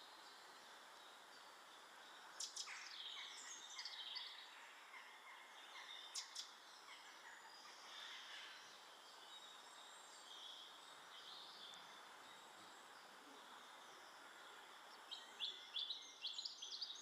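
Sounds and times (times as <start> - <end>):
small birds chirping: 0.0 - 17.0
steady outdoor hiss: 0.0 - 17.0.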